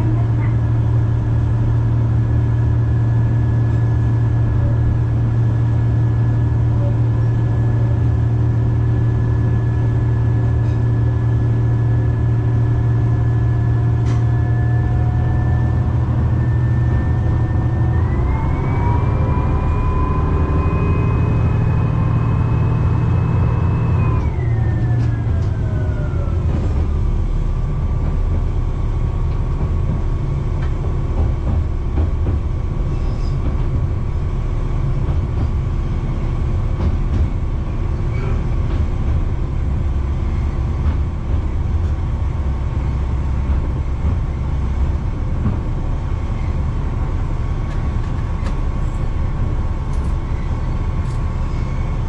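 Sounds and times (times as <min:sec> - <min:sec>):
engine whine: 0:00.0 - 0:52.0
railcar engine hum: 0:00.0 - 0:52.0.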